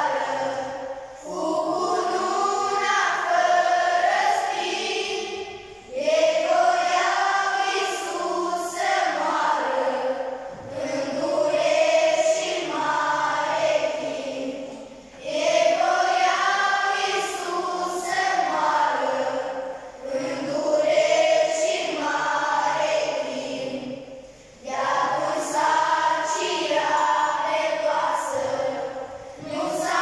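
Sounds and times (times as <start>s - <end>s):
children's choir singing: 0.0s - 30.0s.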